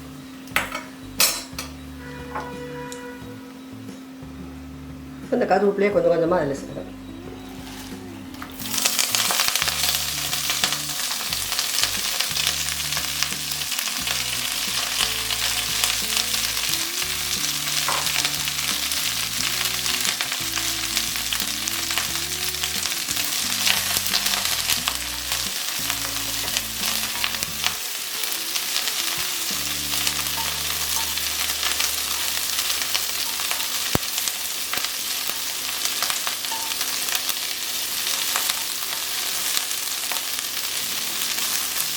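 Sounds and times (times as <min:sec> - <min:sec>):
leaves crackling in hot oil: 0:07.6 - 0:41.9.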